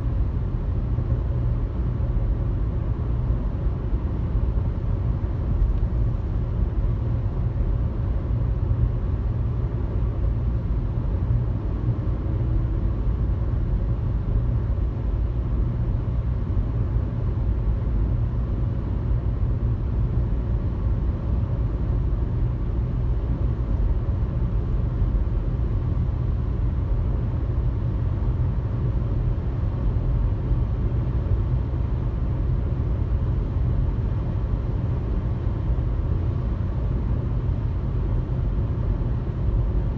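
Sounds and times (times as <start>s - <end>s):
car engine and road noise: 0.1s - 39.9s.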